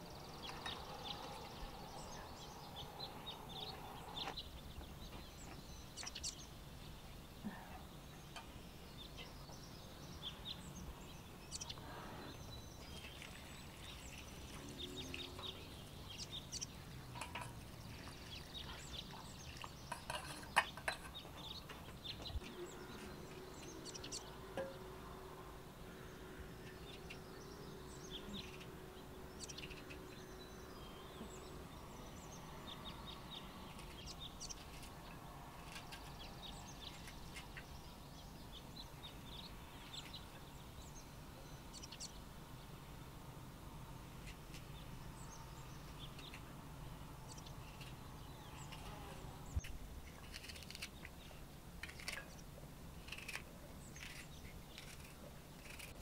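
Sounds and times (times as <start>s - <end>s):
birds chirping: 0.0s - 43.0s, 43.6s - 56.0s.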